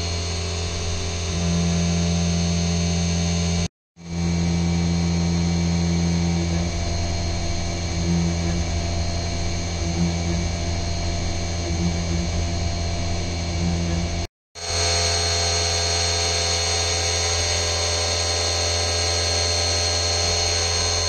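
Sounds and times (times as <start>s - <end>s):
milling machine hum with whine: 0.0s - 21.0s.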